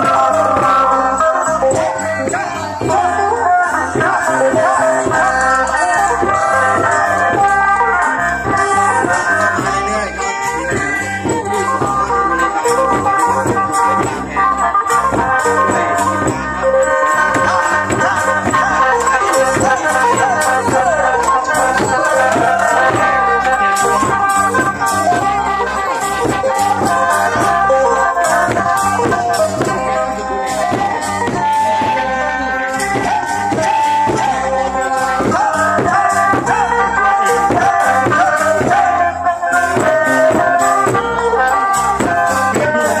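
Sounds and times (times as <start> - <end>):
drums beating: 0.0 - 43.0
wavering melody: 0.0 - 43.0.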